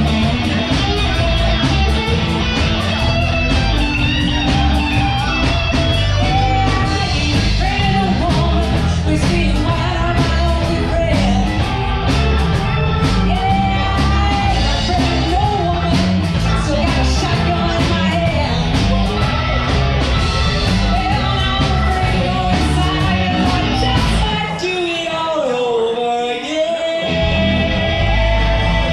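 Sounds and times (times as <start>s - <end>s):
bass: 0.0s - 28.9s
drums: 0.0s - 28.9s
electric guitar: 0.0s - 28.9s
keyboard: 0.0s - 28.9s
person singing: 0.0s - 28.9s.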